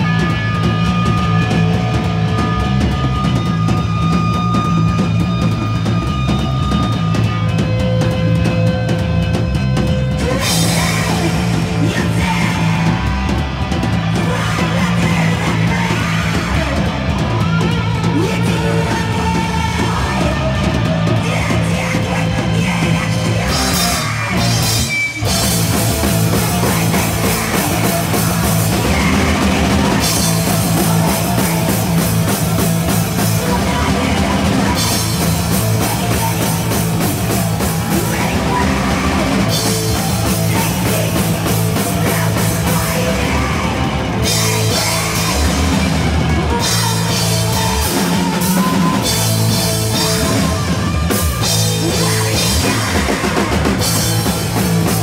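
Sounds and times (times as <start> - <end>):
drum kit playing hard: 0.0 - 55.0
electric guitar: 0.0 - 55.0.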